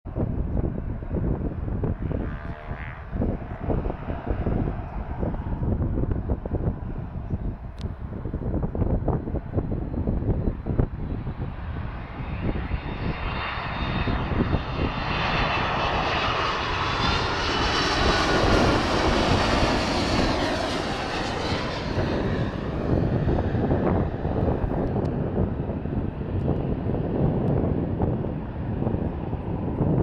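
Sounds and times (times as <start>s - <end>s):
jet airliner engines whining: 0.1s - 30.0s.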